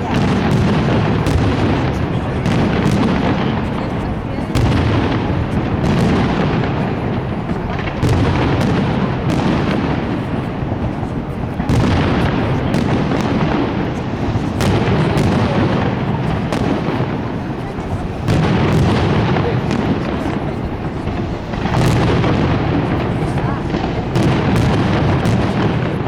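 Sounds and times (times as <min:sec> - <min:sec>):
fireworks booming: 0:00.0 - 0:26.0
sharp firework cracks: 0:00.0 - 0:26.0.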